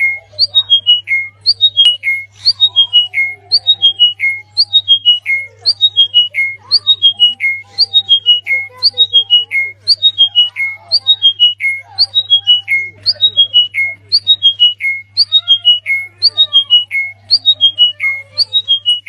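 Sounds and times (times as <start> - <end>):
faint chirping: 0.0 - 19.0
songbird calling descending phrase: 0.0 - 19.0.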